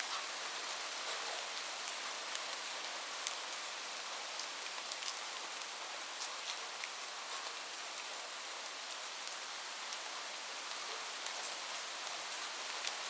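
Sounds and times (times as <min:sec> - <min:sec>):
rain falling on a roof: 0:00.0 - 0:13.0.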